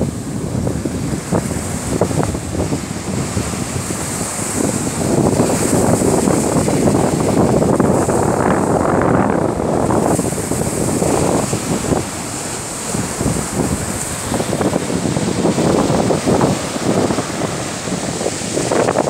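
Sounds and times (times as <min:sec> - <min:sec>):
surf washing on sandy shore: 0:00.0 - 0:19.0
wind buffeting microphone: 0:00.0 - 0:19.0.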